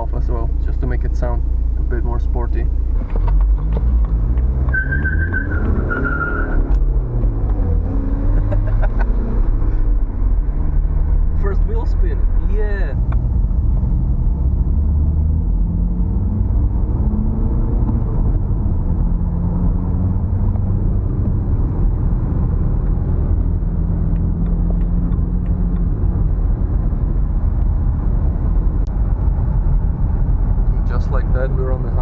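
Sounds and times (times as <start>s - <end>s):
car engine accelerating: 0.0s - 32.0s
road rumble inside car: 0.0s - 32.0s.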